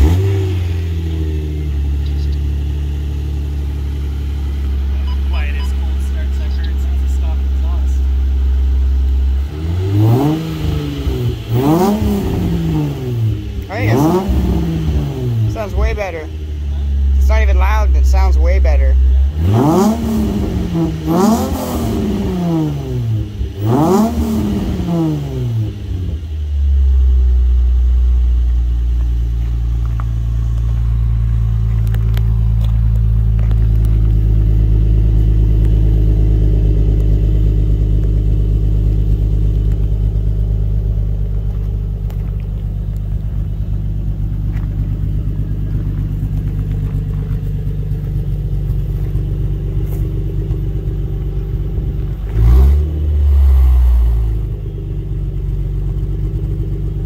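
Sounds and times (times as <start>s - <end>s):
car engine revving and idling: 0.0s - 57.0s.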